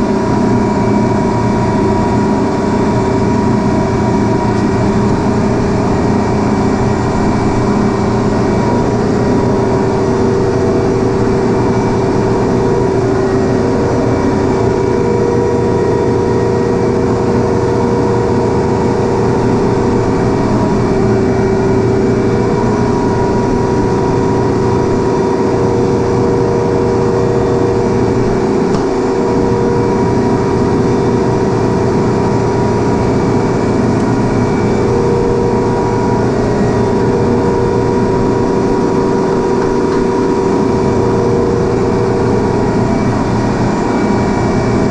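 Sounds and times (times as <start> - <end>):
compressor machine hum: 0.0 - 44.9.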